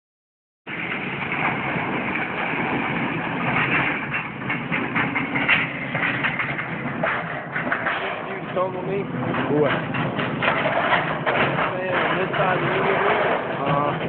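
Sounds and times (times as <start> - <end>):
debris cracking and crunching: 0.7 - 14.0
diesel engine under load: 0.7 - 14.0.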